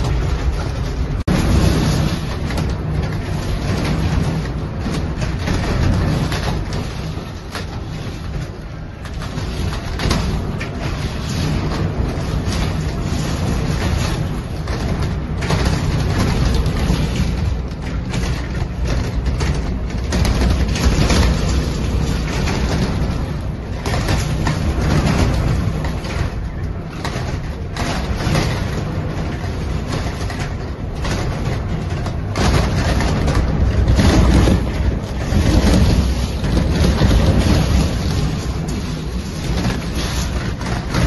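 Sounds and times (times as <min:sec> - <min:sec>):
gusting wind: 0:00.0 - 0:41.0
heavy rain pouring: 0:00.0 - 0:41.0.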